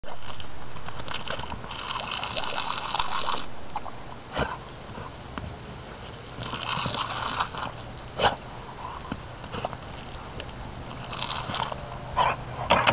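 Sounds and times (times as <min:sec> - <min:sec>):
garden hose spraying water: 0:00.0 - 0:12.6
dog biting at water: 0:00.0 - 0:12.9.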